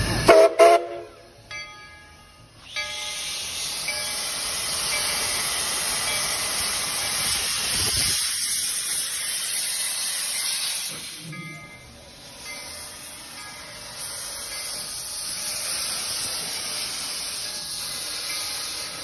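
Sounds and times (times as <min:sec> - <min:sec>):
steam locomotive venting steam: 0:00.0 - 0:01.4, 0:02.4 - 0:19.0.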